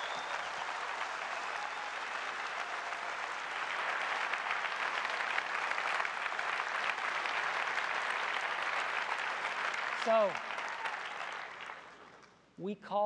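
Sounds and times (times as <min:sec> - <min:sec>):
audience applauding and cheering: 0:00.0 - 0:12.3.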